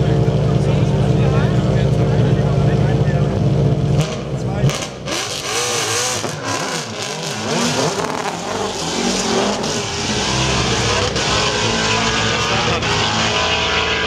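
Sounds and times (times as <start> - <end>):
race car accelerating hard: 0.0 - 14.0.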